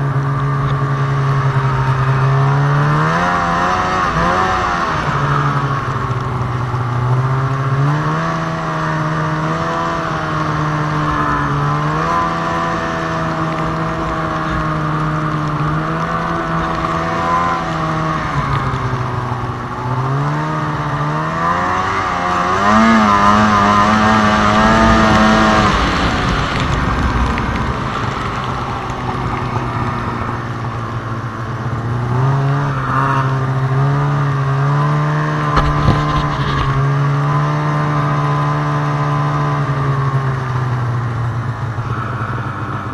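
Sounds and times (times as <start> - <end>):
steady rushing noise: 0.0 - 34.4, 35.3 - 38.6
snowmobile engine revving: 0.0 - 42.9.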